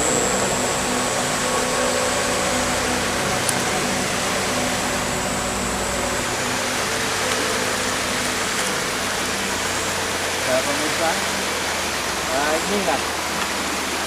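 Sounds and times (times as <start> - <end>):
spring water rushing: 0.0 - 14.0.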